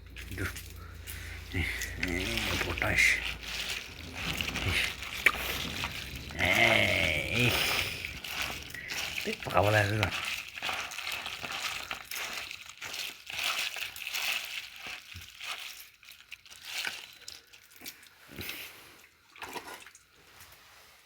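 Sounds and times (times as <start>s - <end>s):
crinkling and rustling: 0.0s - 18.7s.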